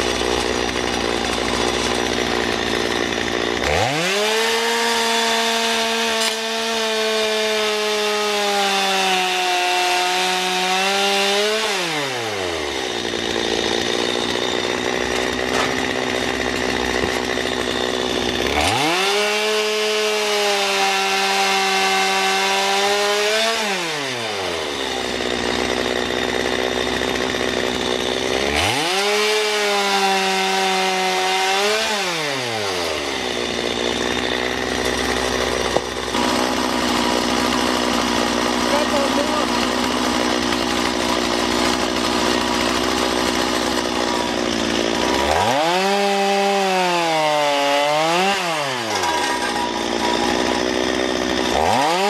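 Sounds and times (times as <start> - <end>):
chainsaw cutting logs: 0.0 - 52.0.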